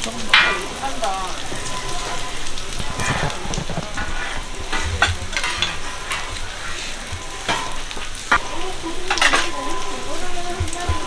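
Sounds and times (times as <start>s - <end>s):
metal spatula scraping griddle: 0.0s - 11.0s
pancakes sizzling in oil: 0.0s - 11.0s.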